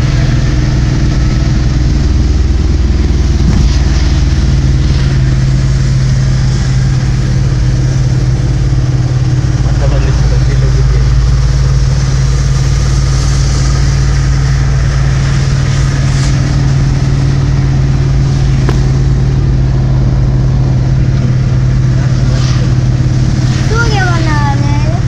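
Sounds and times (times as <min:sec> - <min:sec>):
rain hissing on wet road: 0:00.0 - 0:25.0
vehicle driving drone: 0:00.0 - 0:25.0.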